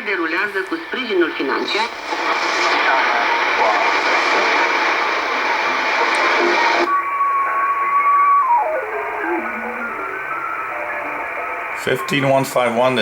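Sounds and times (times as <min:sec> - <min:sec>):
radio station with static: 0:00.0 - 0:13.0
steady radio whistle: 0:00.0 - 0:13.0.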